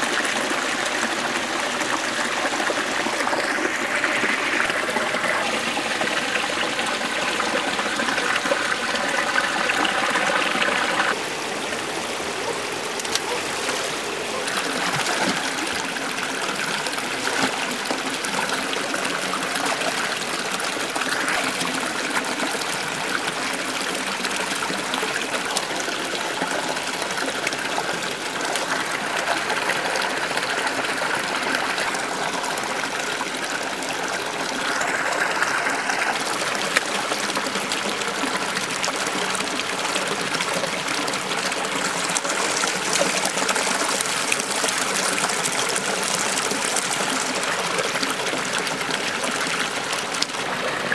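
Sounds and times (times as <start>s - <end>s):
stream flowing over stones: 0.0s - 50.9s.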